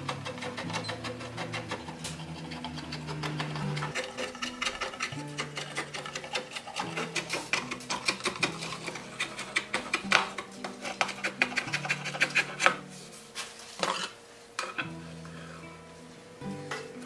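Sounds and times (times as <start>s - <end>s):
file scraping wood: 0.0s - 15.0s
background music: 0.0s - 17.0s.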